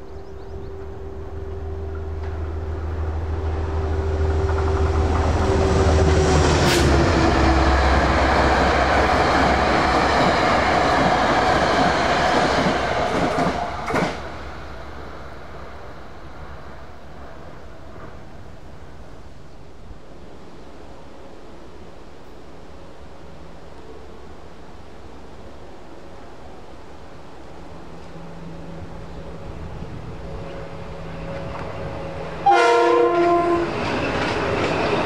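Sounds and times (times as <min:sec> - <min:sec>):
wheels rushing on rails: 0:00.0 - 0:19.2, 0:26.1 - 0:35.0
train passing at speed: 0:00.0 - 0:35.0.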